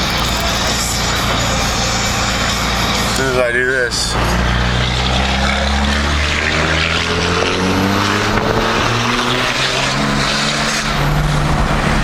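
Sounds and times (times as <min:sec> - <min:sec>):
diesel truck engine accelerating: 0:00.0 - 0:12.0.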